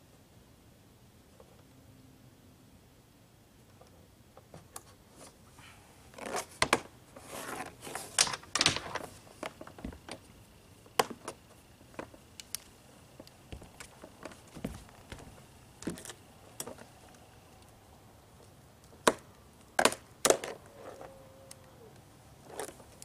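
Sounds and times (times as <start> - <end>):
cables rustling and scraping: 3.6 - 19.1, 19.8 - 23.0.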